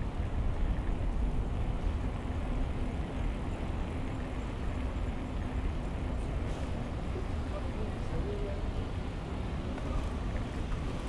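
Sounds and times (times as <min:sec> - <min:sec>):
bicycle tyres on paved road: 0:00.0 - 0:11.0.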